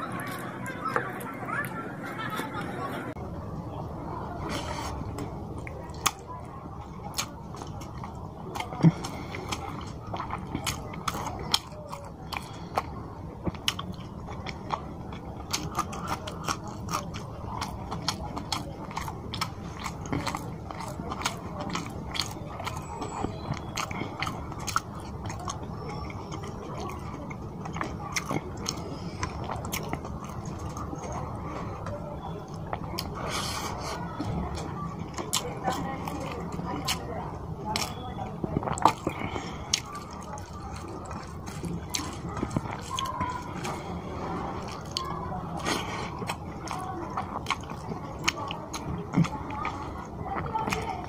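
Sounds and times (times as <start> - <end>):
close chewing: 0.0 - 3.0, 4.1 - 51.0.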